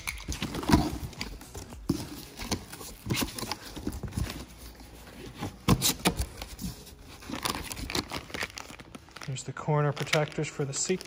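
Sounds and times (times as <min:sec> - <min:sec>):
packing tape being pulled: 0:00.0 - 0:11.0.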